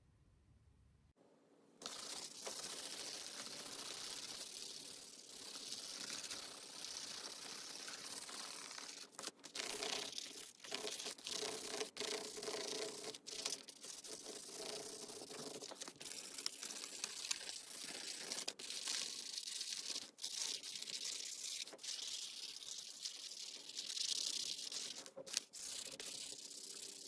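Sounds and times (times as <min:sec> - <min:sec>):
marker scribbling on paper plate: 0:01.8 - 0:27.0.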